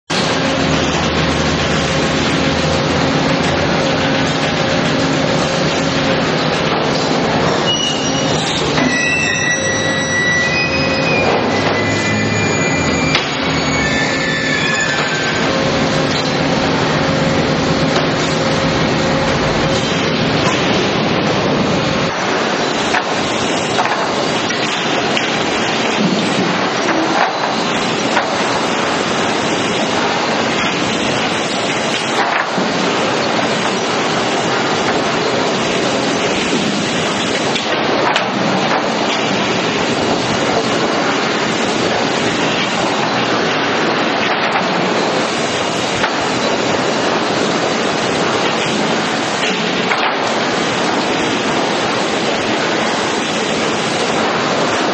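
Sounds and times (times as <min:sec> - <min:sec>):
sawmill machinery din: 0:00.1 - 0:54.9.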